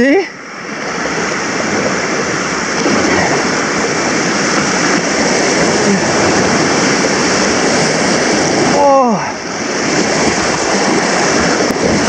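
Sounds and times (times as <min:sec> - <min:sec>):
river water rushing over riffle: 0:00.0 - 0:12.0.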